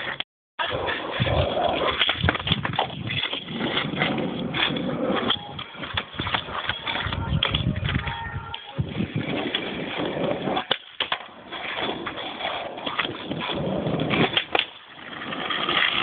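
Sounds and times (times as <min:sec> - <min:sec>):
skateboard clacking on ground: 0:00.0 - 0:16.0
skateboard wheels rolling on asphalt: 0:00.0 - 0:16.0.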